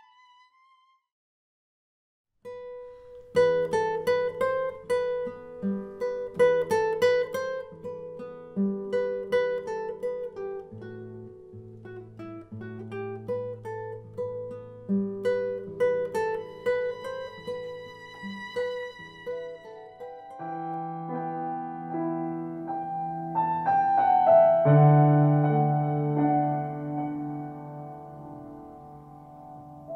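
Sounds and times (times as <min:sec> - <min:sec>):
fingerpicked classical guitar: 0:02.4 - 0:29.9.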